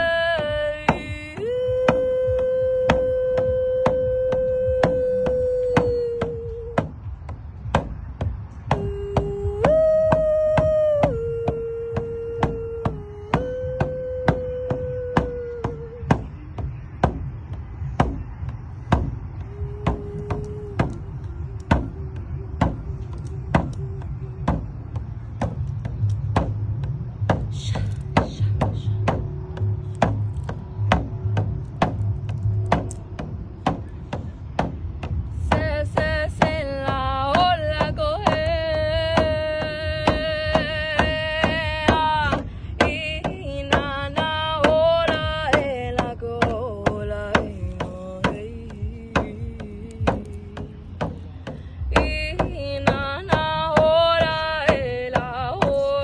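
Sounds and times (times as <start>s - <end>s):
drum struck in slow beat: 0.4s - 56.0s.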